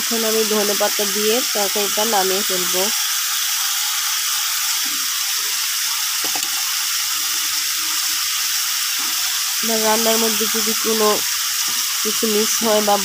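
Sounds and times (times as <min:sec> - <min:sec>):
curry bubbling and sizzling: 0:00.1 - 0:13.0.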